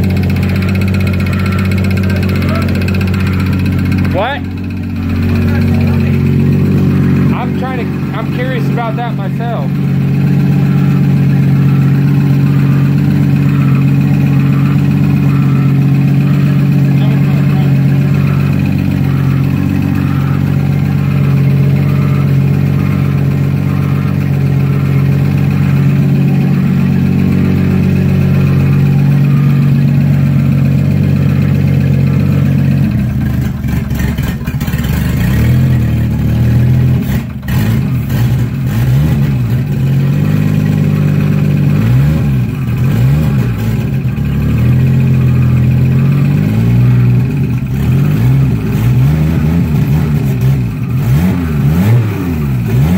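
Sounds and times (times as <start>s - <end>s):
car engine idling and revving: 0.0s - 52.9s.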